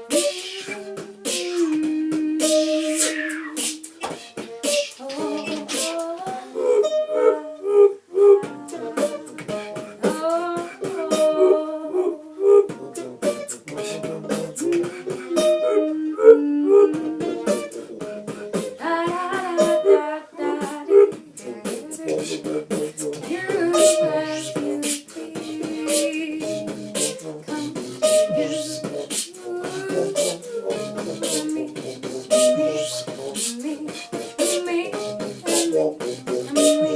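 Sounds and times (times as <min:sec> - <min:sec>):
beatboxed rhythm: 0:00.0 - 0:36.9
instrumental melody: 0:00.0 - 0:36.9.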